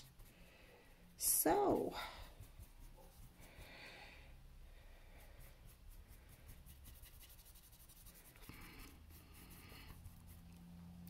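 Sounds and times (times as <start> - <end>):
paintbrush strokes on canvas: 0.0 - 3.9, 4.9 - 11.0.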